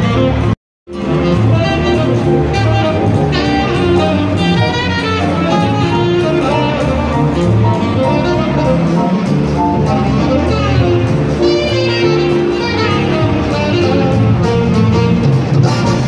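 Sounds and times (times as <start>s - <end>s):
loud instrumental music: 0.0s - 16.0s.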